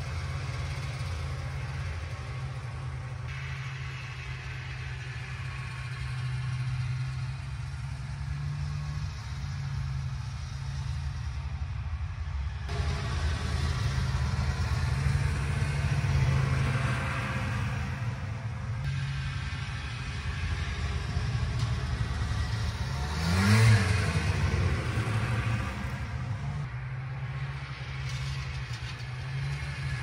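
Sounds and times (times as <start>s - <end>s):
snowmobile engine running: 0.0s - 11.4s, 12.7s - 26.7s.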